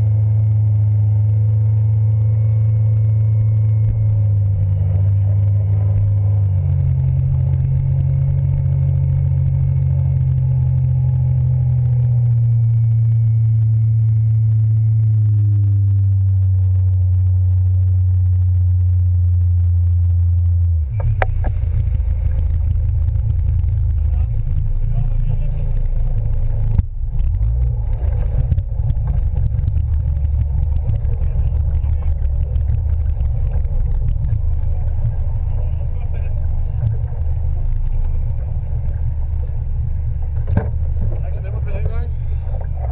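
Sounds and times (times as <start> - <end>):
outboard motor running: 0.0 - 42.9.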